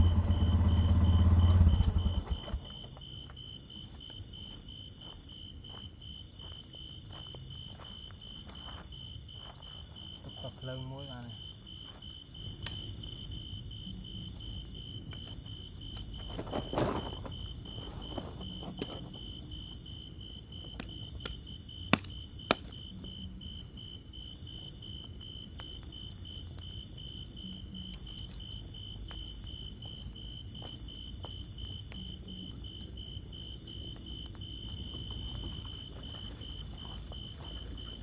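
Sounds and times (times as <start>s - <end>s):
crickets pulsing trill: 0.0s - 38.0s
insects chirping: 0.0s - 38.0s.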